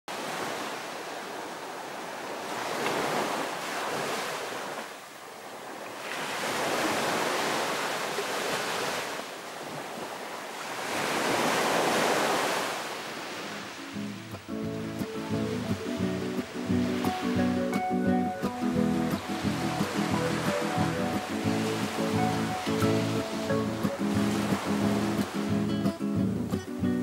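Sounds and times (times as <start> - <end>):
sea waves washing on shore: 0.1 - 26.8.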